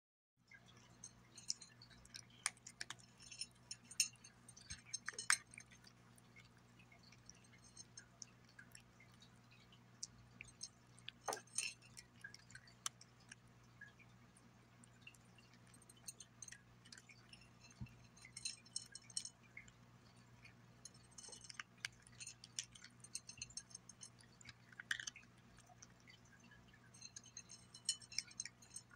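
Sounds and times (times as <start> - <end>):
cat crunching dry kibble: 0.5 - 28.9
kibble clinking on glass plate: 0.5 - 28.9.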